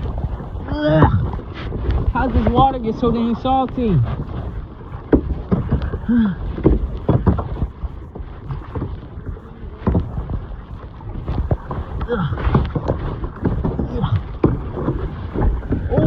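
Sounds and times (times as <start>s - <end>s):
kayak paddle splashing: 0.0s - 16.0s
wind rumble on microphone: 0.0s - 16.0s.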